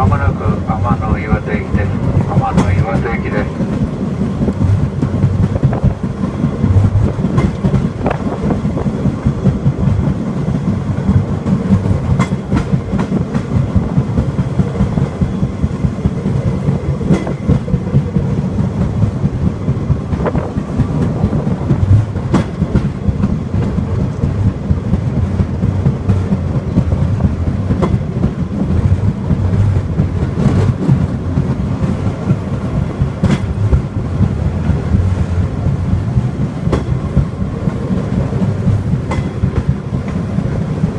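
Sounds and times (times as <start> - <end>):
rail cart rumbling: 0.0 - 40.9
wheels clacking over rail joints: 0.0 - 40.9.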